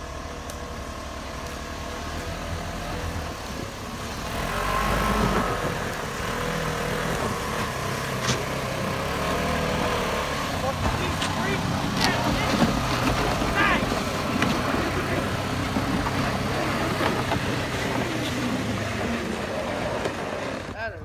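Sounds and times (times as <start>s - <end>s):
utility vehicle engine under load: 0.0s - 21.0s.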